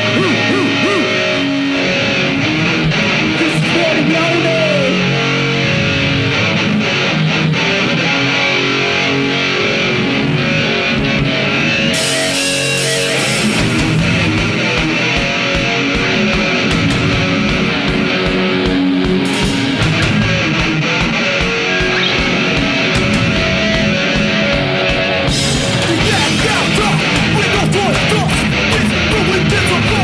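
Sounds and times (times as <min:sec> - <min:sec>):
live band with electric guitars: 0:00.0 - 0:30.0.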